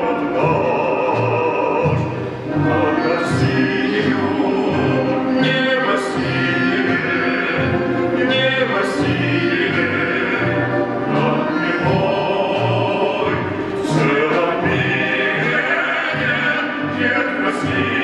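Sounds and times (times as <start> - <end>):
folk string orchestra: 0.0 - 18.0.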